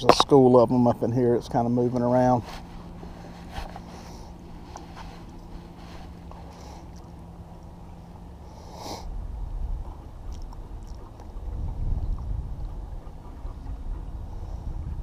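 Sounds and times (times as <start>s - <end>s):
faint steady hum: 0.0s - 15.0s
wind rumble on microphone: 0.8s - 15.0s.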